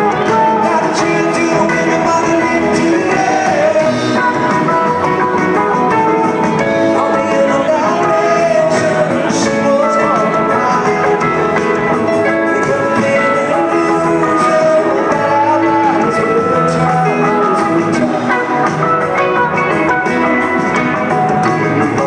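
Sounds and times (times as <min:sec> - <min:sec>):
gliding guitar notes: 0:00.0 - 0:22.0
live rock band playing: 0:00.0 - 0:22.0.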